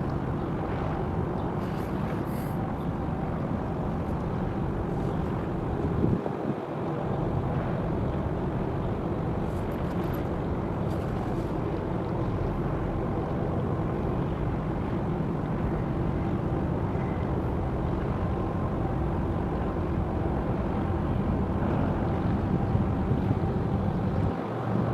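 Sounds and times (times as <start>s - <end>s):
ship engine low rumble: 0.0s - 24.9s.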